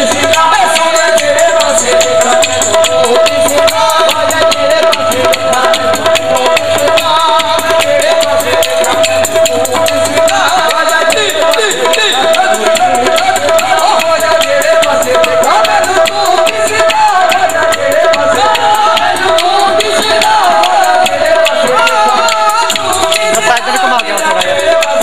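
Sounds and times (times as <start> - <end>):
fast percussion strokes: 0.0 - 25.0
person singing: 0.0 - 25.0.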